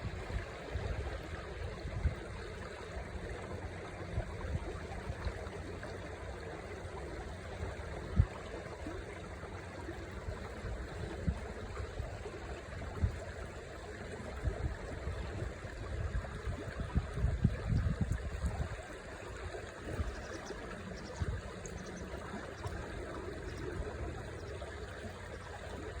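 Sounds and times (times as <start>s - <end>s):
river water over stones: 0.0s - 26.0s.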